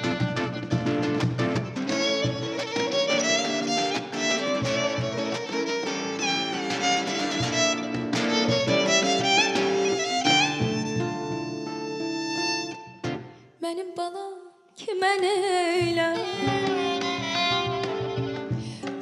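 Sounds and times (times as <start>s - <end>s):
violin melody: 0.0s - 13.3s, 16.0s - 19.0s
acoustic guitar accompaniment: 0.0s - 14.2s, 14.8s - 19.0s.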